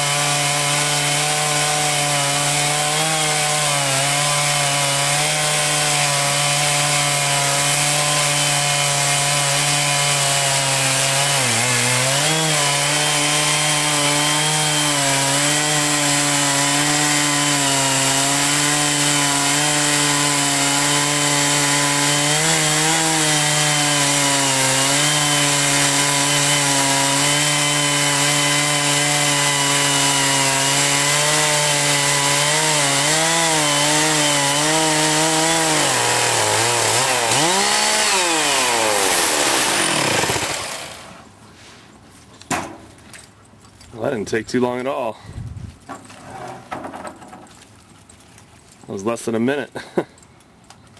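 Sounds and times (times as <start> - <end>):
sawmill engine under load: 0.0 - 41.3
saw cutting through log: 0.0 - 41.4.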